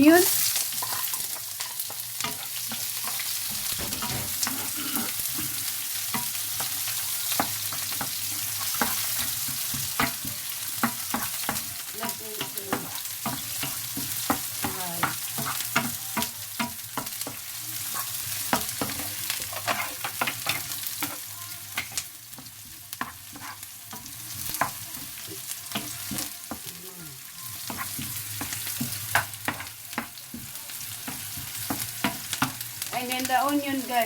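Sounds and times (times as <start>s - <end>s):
garlic and onion sizzling in oil: 0.0s - 34.0s
spatula scraping a pan: 0.4s - 33.2s.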